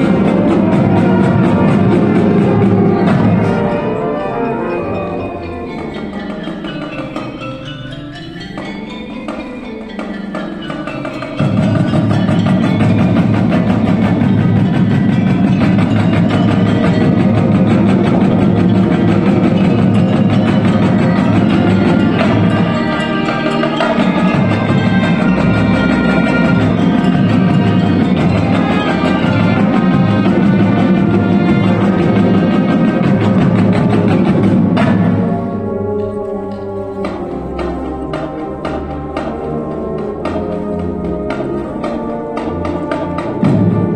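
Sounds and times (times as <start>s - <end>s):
marching band playing: 0.0s - 43.9s.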